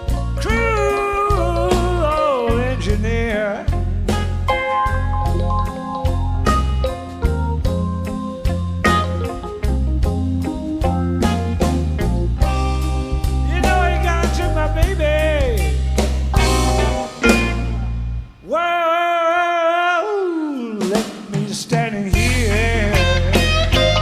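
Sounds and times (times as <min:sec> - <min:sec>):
electric blues band playing: 0:00.0 - 0:18.6, 0:20.5 - 0:24.0.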